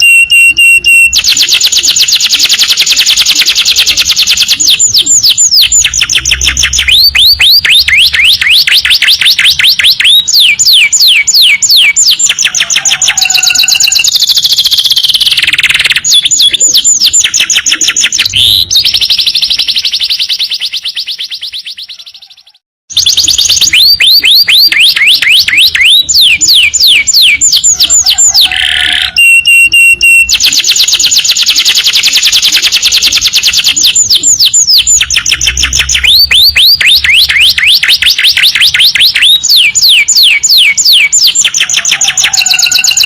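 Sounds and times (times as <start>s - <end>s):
canary singing fast trills: 0.0s - 43.0s.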